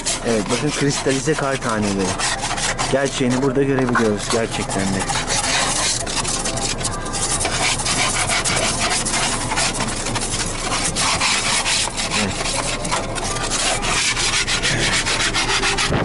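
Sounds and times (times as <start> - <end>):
scratchy rubbing and rasping: 0.0 - 16.0.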